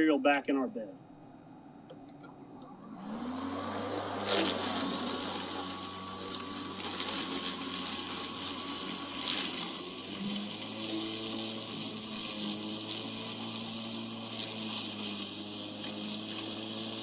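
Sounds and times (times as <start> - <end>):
electric lawn mower motor hum: 2.6 - 17.0.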